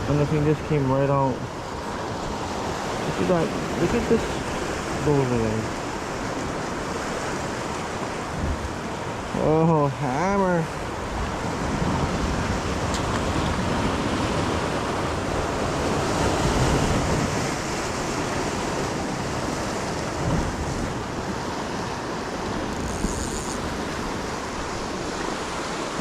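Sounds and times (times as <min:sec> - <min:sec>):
ocean surf washing ashore: 0:00.0 - 0:26.0.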